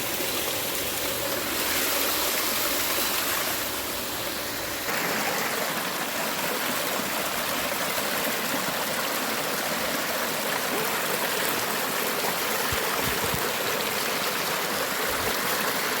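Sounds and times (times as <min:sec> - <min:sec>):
creek water rushing over stones: 0:00.0 - 0:16.0.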